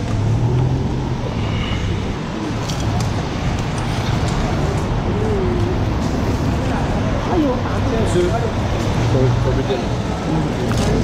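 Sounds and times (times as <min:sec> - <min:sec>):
traffic rumble: 0:00.0 - 0:11.0
faint voices: 0:01.1 - 0:11.0.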